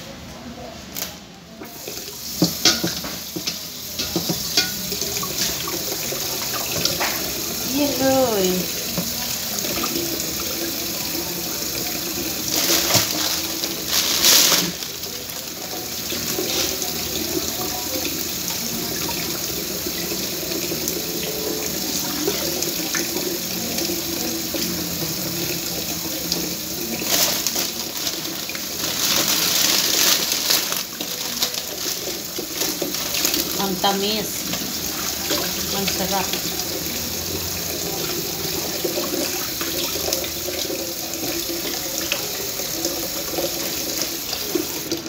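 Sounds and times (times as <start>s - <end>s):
tap water running into metal sink: 1.7s - 45.0s.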